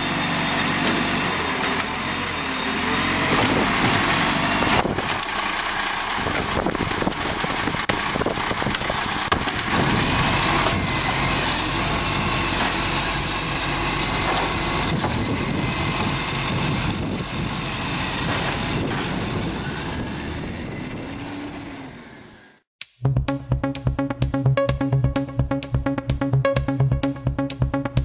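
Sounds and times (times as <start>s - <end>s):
garbage truck diesel engine running: 0.0s - 22.6s.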